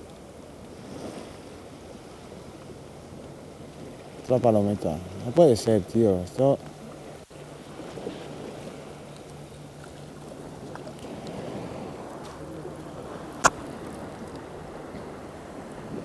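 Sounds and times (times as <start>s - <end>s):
sea water lapping: 0.0s - 16.0s.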